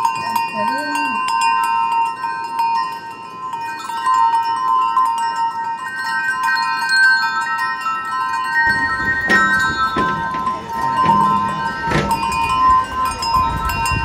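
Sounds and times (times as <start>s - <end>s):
ringing chime-like bell tones: 0.0s - 14.0s.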